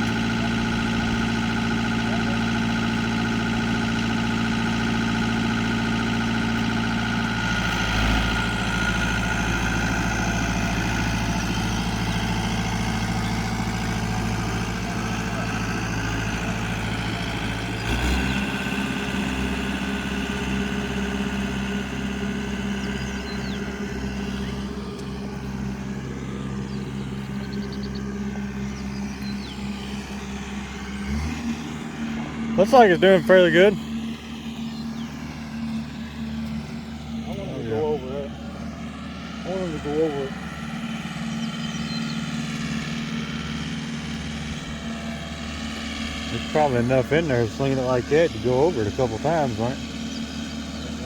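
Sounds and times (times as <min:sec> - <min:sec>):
engine running: 0:00.0 - 0:51.0.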